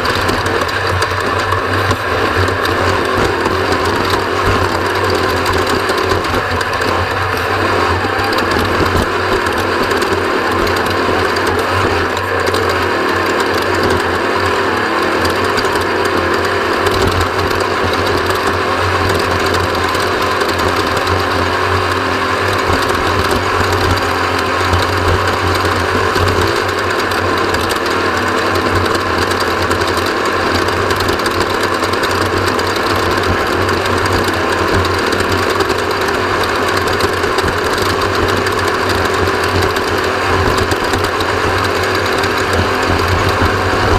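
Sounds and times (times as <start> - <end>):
race vehicle engine droning: 0.0 - 43.9.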